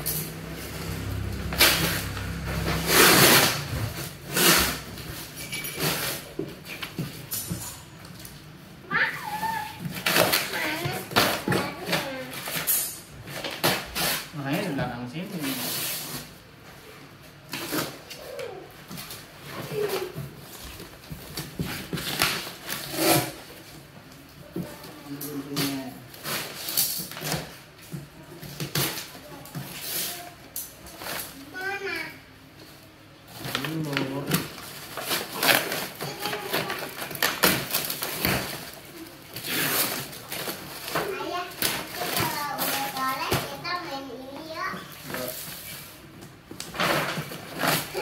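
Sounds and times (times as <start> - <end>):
cardboard rustling and tearing: 0.4 - 7.6, 9.0 - 16.4, 17.5 - 23.8, 24.5 - 32.0, 33.3 - 48.0.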